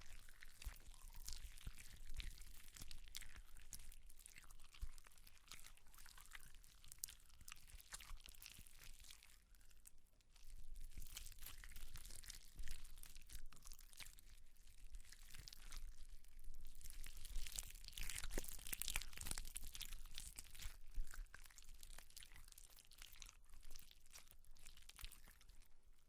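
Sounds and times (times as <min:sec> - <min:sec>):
crunching and tearing flesh: 0:00.0 - 0:09.8, 0:10.8 - 0:25.6.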